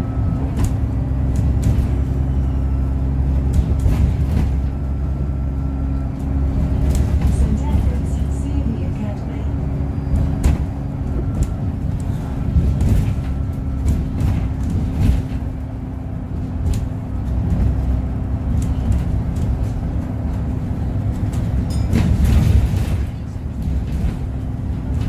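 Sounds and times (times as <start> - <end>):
bus body rattling: 0.0 - 25.0
bus engine droning: 0.0 - 25.0.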